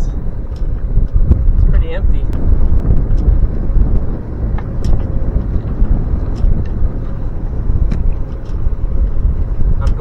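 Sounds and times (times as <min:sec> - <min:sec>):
outboard motor rumble: 0:00.0 - 0:10.0.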